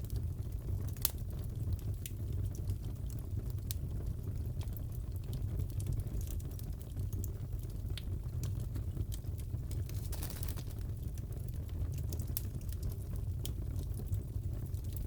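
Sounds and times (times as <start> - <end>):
crackling wood fire: 0.0 - 15.0.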